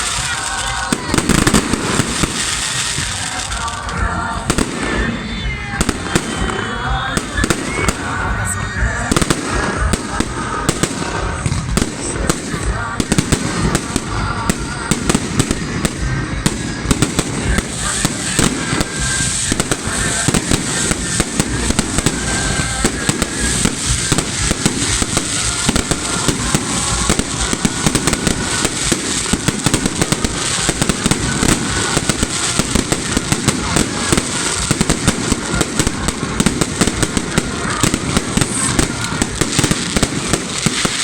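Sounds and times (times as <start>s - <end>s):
fireworks bangs: 0.0s - 41.0s
fireworks crackling: 0.0s - 41.0s.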